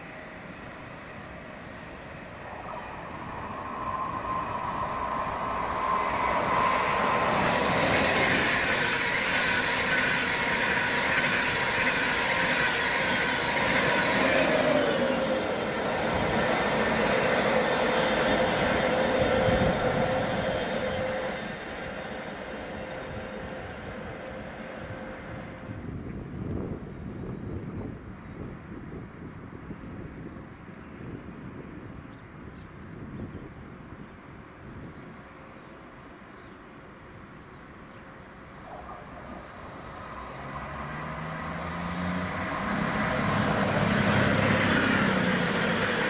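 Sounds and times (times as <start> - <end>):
passenger train passing: 0.0 - 32.0, 33.5 - 46.0
steady whine of train: 0.0 - 46.0.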